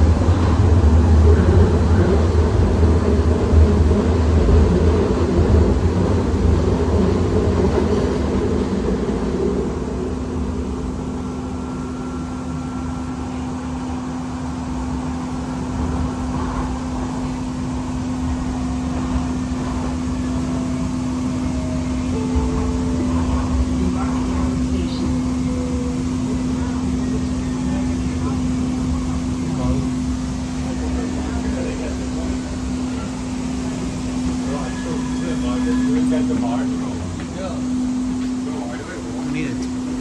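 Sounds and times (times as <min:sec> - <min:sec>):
train low rumble: 0:00.0 - 0:40.0.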